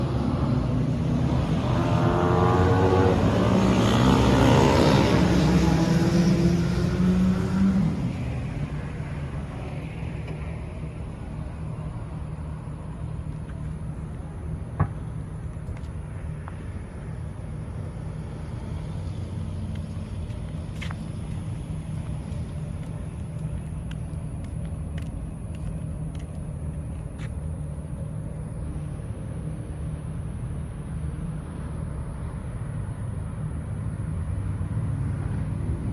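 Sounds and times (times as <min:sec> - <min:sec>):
vehicle engines rumbling: 0:00.0 - 0:35.9.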